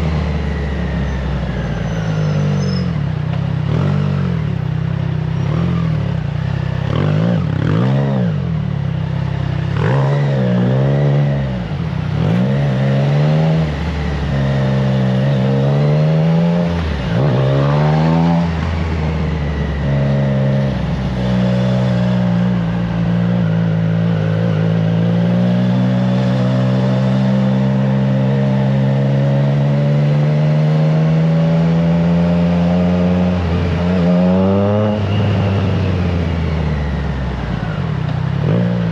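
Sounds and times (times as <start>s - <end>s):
motorcycle engine accelerating: 3.3s - 38.9s.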